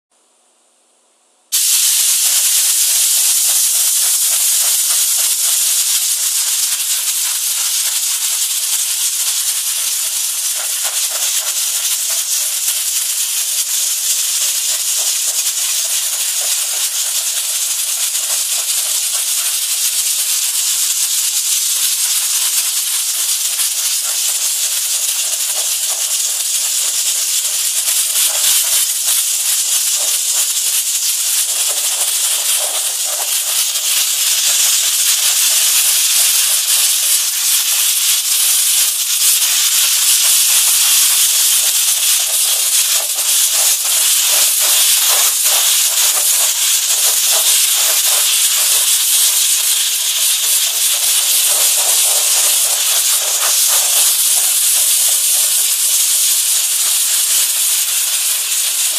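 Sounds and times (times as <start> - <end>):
spray gun hissing: 1.5 - 58.9.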